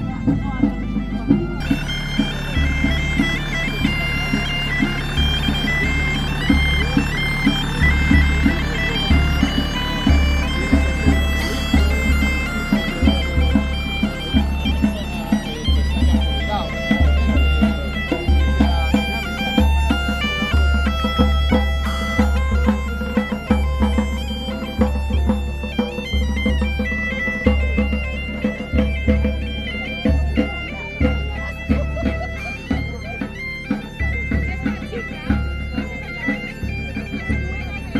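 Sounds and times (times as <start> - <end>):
bagpipe playing folk tune: 0.0 - 37.9
drum beating: 0.0 - 37.9.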